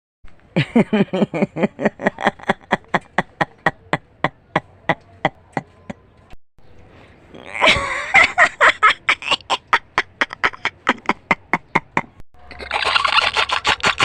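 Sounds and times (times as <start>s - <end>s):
staccato laugh bursts: 0.6s - 5.4s, 7.6s - 14.0s.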